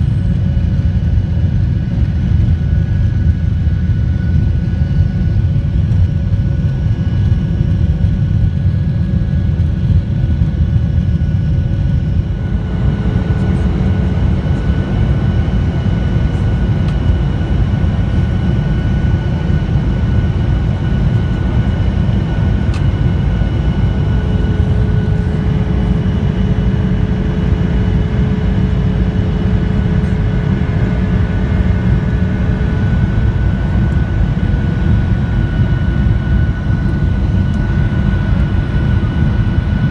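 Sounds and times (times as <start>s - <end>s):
airplane cabin roar: 0.0s - 39.9s
high engine whine: 0.0s - 39.9s.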